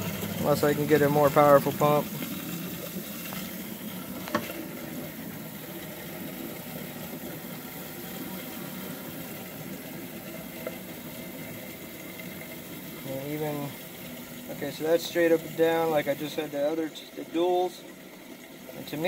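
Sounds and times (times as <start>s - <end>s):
water fizzing with air bubbles: 0.0s - 19.0s.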